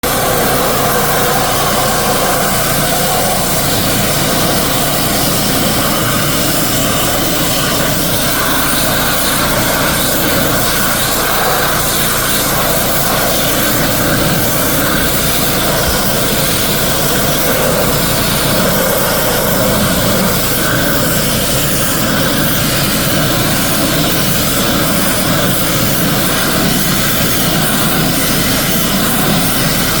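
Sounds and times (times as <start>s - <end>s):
high-pressure water jet hissing: 0.0s - 30.0s
pressure washer motor droning: 0.0s - 30.0s.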